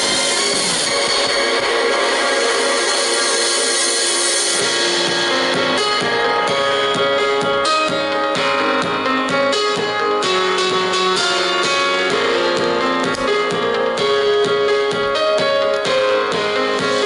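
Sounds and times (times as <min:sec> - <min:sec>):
instrumental music with keyboard: 0:00.0 - 0:17.0.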